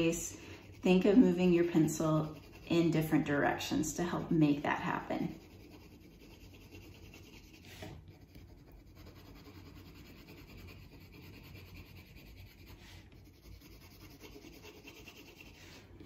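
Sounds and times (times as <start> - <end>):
colored pencil scratching paper: 0.0 - 16.0
pencil scrape: 0.0 - 16.0.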